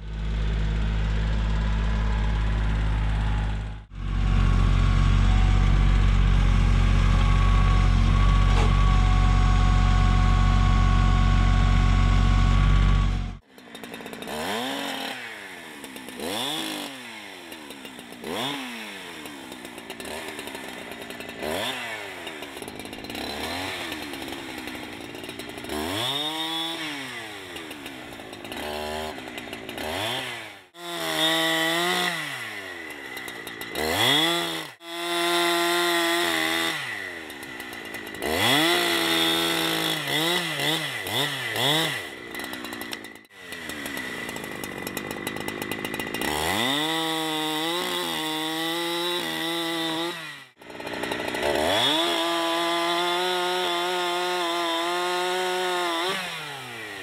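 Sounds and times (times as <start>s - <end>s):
chainsaw cutting through log: 0.0s - 57.0s
chainsaw revving: 0.0s - 57.0s.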